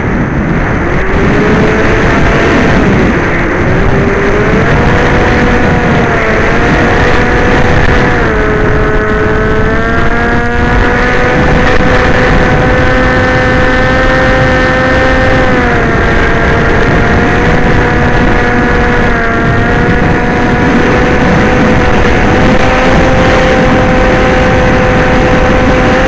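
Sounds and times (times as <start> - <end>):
electric motor and propeller whine: 0.0 - 26.0
wind rush: 0.0 - 26.0.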